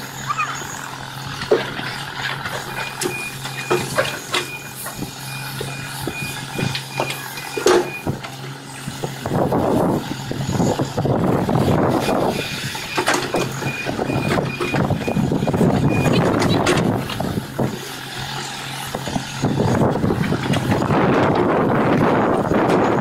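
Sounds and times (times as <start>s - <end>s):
excavator diesel engine under load: 0.0s - 23.0s.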